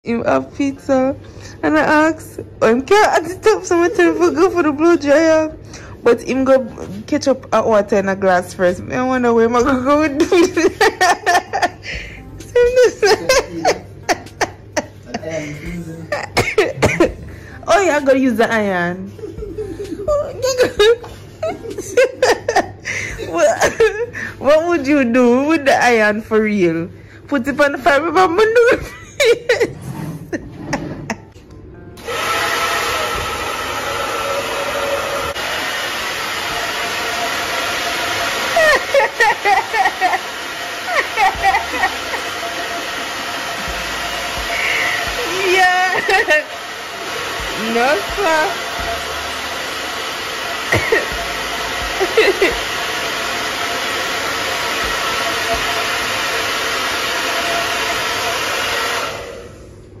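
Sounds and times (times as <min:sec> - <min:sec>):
hair dryer running: 0:00.0 - 0:30.4, 0:31.8 - 1:00.0.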